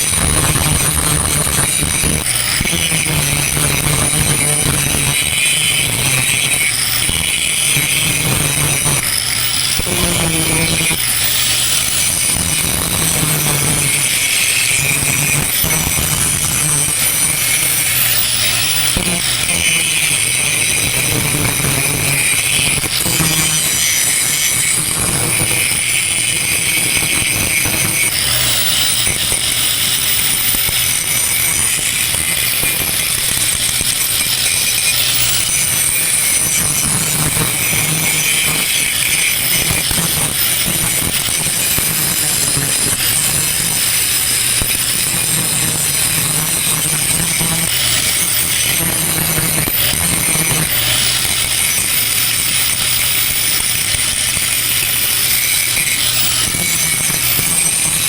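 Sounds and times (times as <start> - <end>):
angle grinder grinding steel: 0.0 - 58.0.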